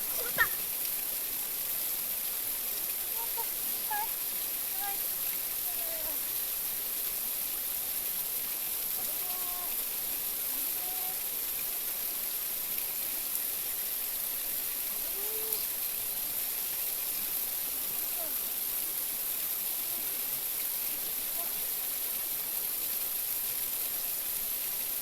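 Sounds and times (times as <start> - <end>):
river flowing: 0.0 - 25.0.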